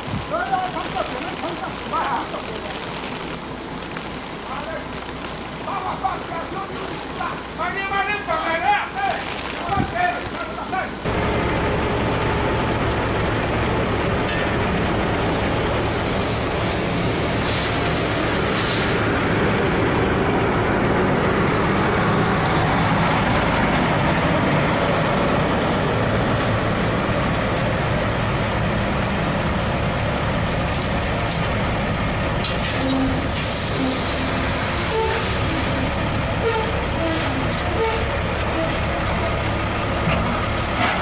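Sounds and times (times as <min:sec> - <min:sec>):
heavy diesel engines running: 0:00.0 - 0:41.0.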